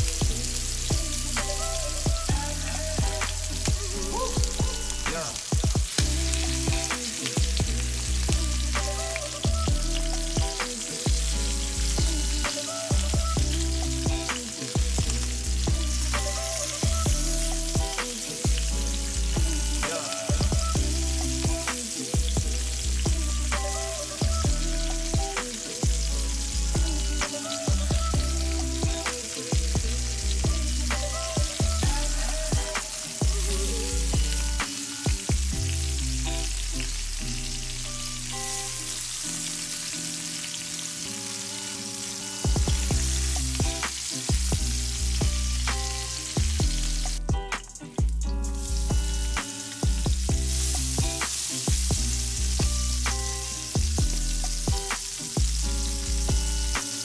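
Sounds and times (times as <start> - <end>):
background music with deep bass: 0.0 - 39.6, 42.4 - 57.0
chicken sizzling in hot oil: 0.0 - 57.0.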